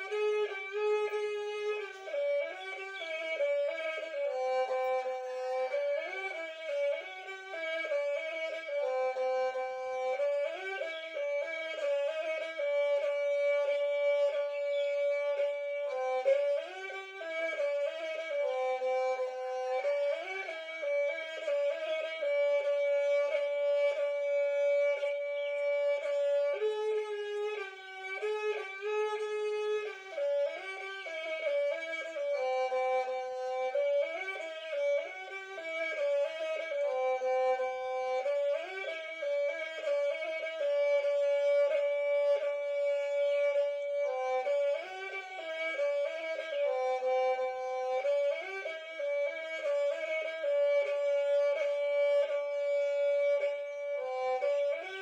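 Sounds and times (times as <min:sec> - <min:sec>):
bowed folk fiddle: 0:00.0 - 0:55.0.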